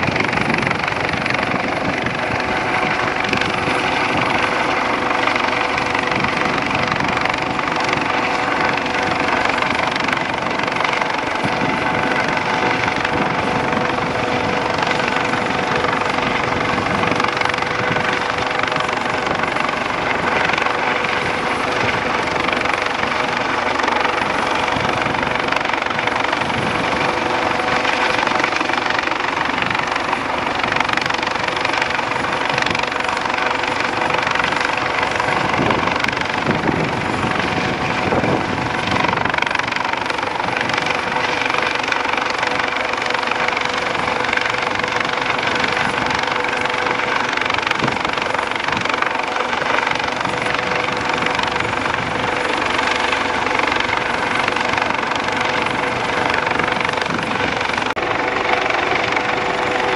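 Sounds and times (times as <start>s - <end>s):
helicopter hovering: 0.0s - 59.9s
turbine whine: 0.0s - 59.9s.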